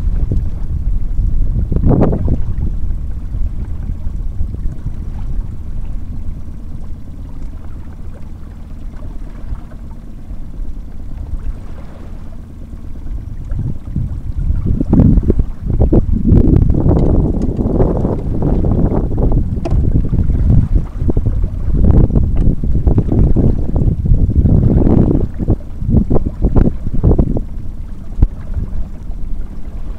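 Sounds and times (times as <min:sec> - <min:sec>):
water sloshing against boat: 0:00.0 - 0:29.9
wind rumbling on microphone: 0:00.0 - 0:29.9.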